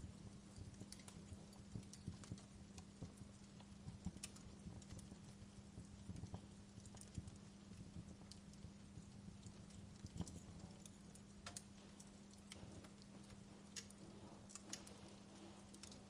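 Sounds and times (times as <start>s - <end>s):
fire crackling and popping: 0.0s - 16.0s
low rumble of fire: 0.0s - 16.0s.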